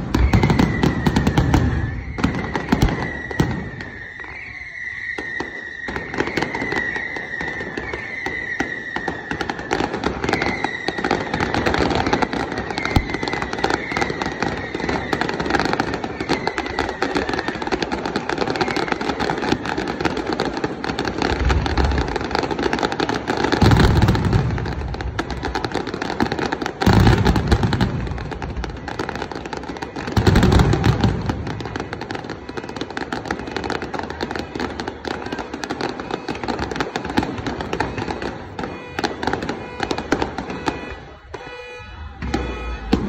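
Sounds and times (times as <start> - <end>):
firework shells booming: 0.0 - 43.0
fireworks crackling: 0.0 - 43.0.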